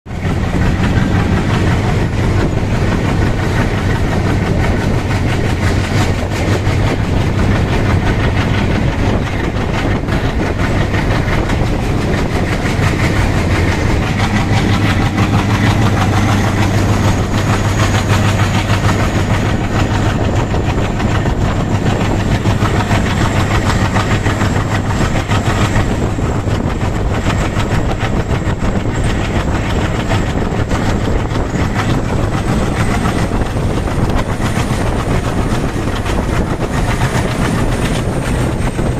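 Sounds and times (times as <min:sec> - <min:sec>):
diesel locomotive engine drone: 0:00.1 - 0:38.9
wheels clattering on rails: 0:00.1 - 0:38.9.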